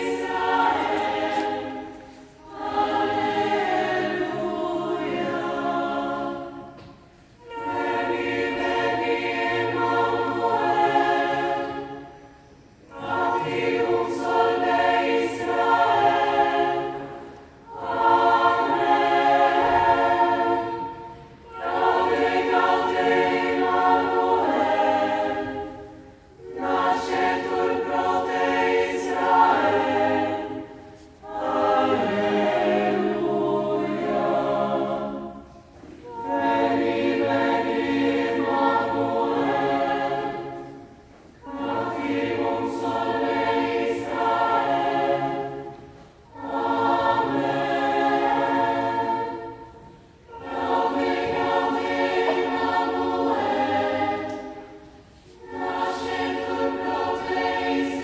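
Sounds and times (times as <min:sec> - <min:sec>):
choir of young voices singing: 0:00.0 - 0:58.0.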